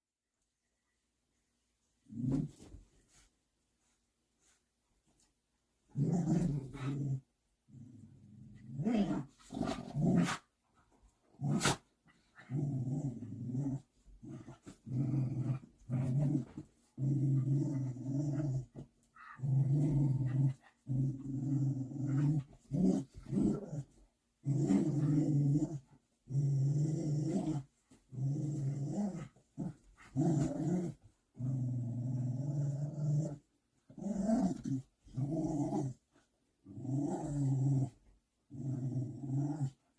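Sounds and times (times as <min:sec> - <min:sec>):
dog growling low: 0:05.9 - 0:10.4, 0:11.3 - 0:36.0, 0:36.6 - 0:39.9.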